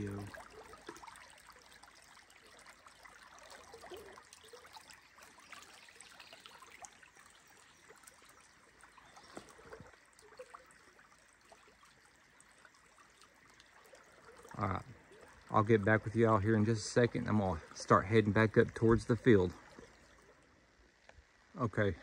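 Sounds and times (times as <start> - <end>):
creek trickling: 0.0 - 22.0.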